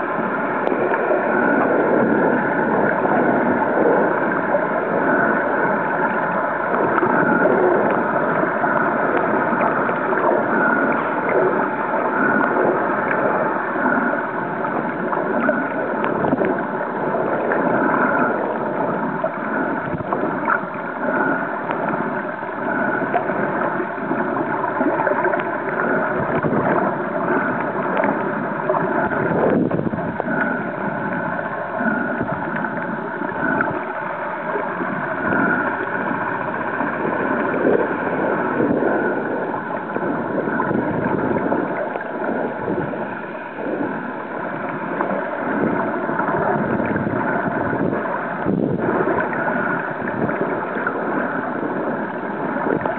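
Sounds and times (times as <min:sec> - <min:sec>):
faint droning hum: 0:00.0 - 0:52.9
muffled underwater rushing: 0:00.0 - 0:52.9.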